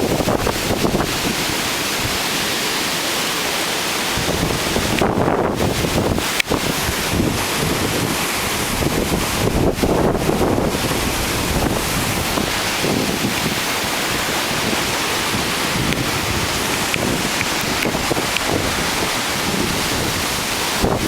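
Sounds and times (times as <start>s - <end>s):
strong wind buffeting microphone: 0.0s - 2.6s, 4.0s - 21.0s.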